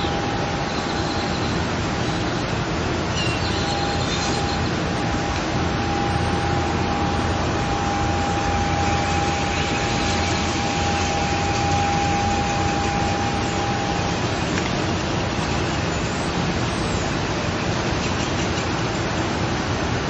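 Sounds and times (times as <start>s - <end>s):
high-pitched whine: 0.0s - 17.5s
rushing outdoor background noise: 0.0s - 20.0s.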